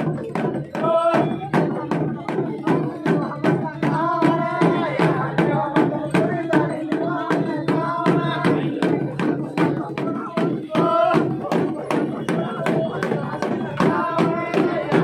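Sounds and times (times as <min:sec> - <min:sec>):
hand drums beaten in rhythm: 0:00.0 - 0:15.0
voices singing: 0:00.0 - 0:15.0.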